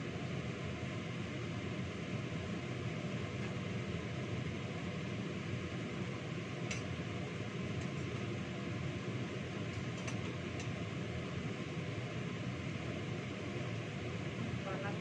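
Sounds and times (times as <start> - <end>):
whooshing fan noise: 0.0 - 15.0.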